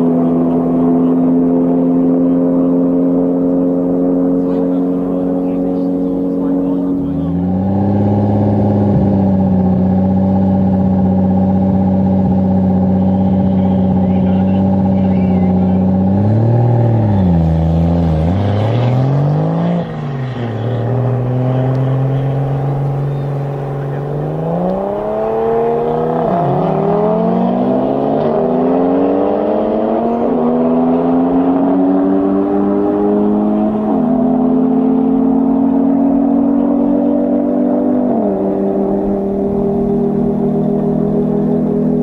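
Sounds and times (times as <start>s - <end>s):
car accelerating through gears: 0.0s - 42.0s
car engine revving: 0.0s - 42.0s.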